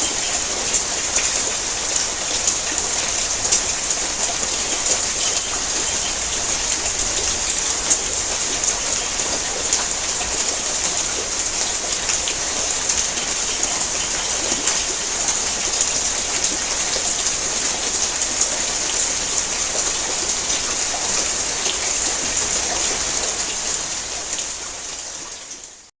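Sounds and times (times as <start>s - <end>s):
heavy rain on a tin roof: 0.0s - 25.9s.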